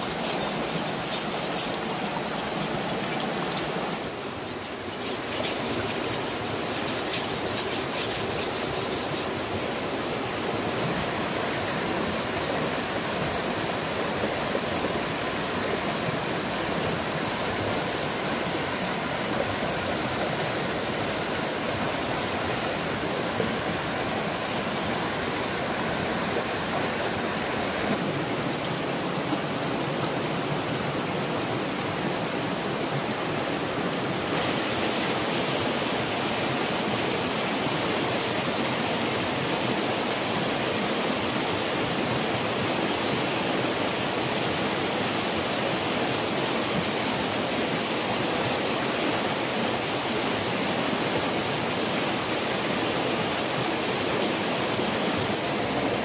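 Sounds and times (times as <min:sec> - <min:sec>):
stream rushing over cascades: 0:00.0 - 0:56.0.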